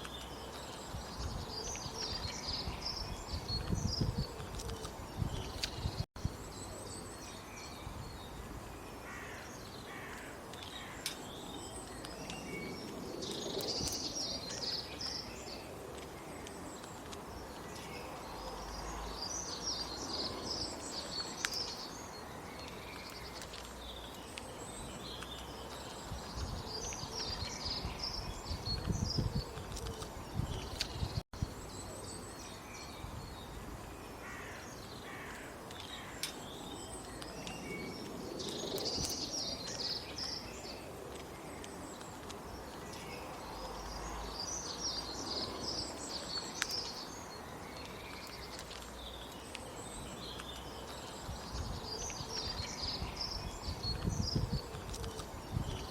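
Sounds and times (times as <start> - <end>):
outdoor background noise: 0.0 - 55.9
small birds chirping: 0.0 - 55.9.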